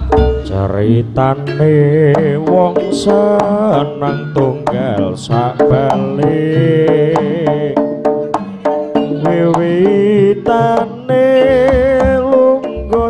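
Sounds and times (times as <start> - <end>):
hand-drum strokes: 0.0 - 13.0.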